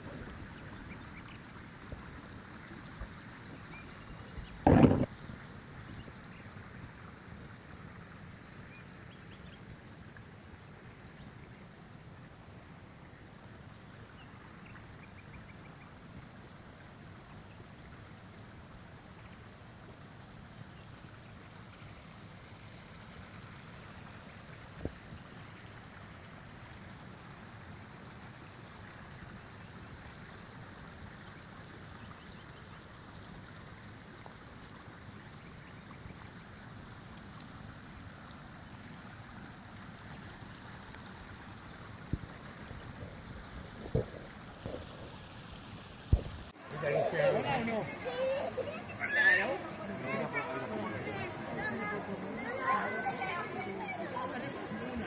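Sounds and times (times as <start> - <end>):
small stream running: 0.0 - 55.0.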